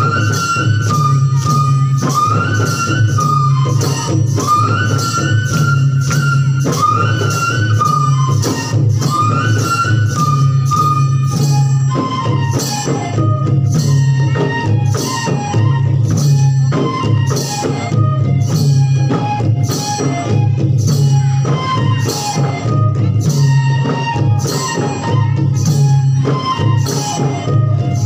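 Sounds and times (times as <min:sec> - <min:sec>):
drums beating steady rhythm: 0:00.0 - 0:28.0.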